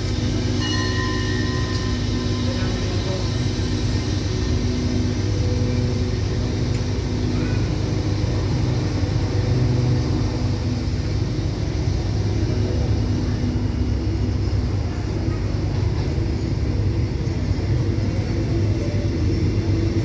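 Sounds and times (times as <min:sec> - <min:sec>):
engine hum: 0:00.0 - 0:20.0
train rumbling slowly: 0:00.0 - 0:20.0.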